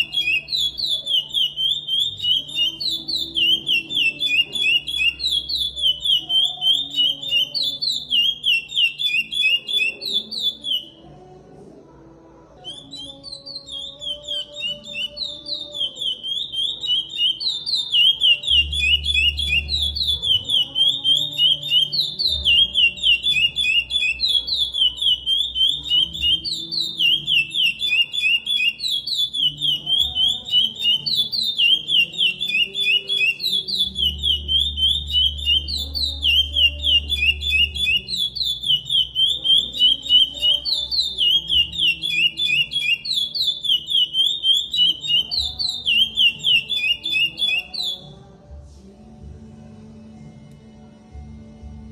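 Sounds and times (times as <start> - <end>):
finch singing whistled phrase: 0.0 - 11.0, 12.6 - 48.2.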